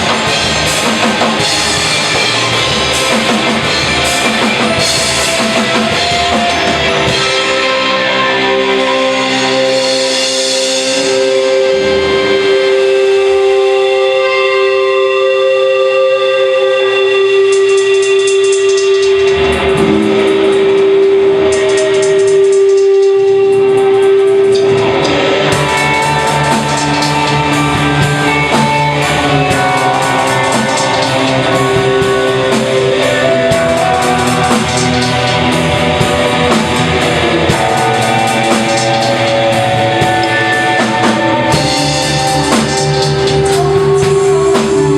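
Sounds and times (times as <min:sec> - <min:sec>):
drum kit hits: 0:00.0 - 0:11.3, 0:17.5 - 0:44.9
live rock band playing: 0:00.0 - 0:44.9
ringing electric guitar tones: 0:00.0 - 0:44.9.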